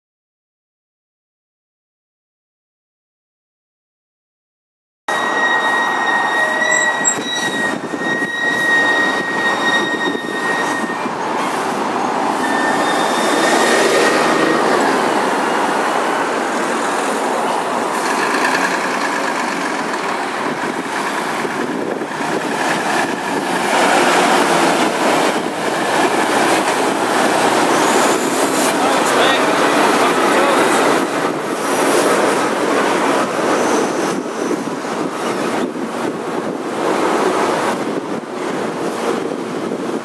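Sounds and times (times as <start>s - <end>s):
heavy road noise: 5.1s - 40.0s
passing traffic: 5.1s - 40.0s
truck engine rumbling: 5.2s - 40.0s.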